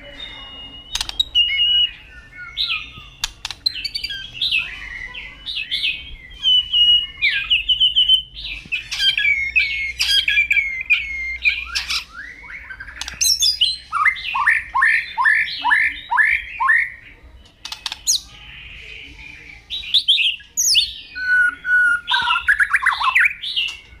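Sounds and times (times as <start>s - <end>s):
bird singing whistles and trills: 0.0s - 24.0s.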